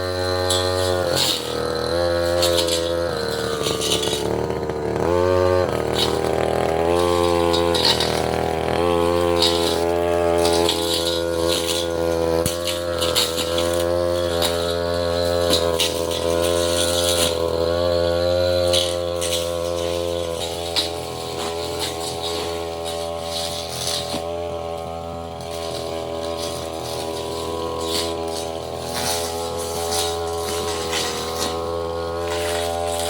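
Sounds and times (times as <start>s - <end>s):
blade rattling through saplings: 0.0s - 33.0s
brush cutter running at high revs: 0.0s - 33.0s.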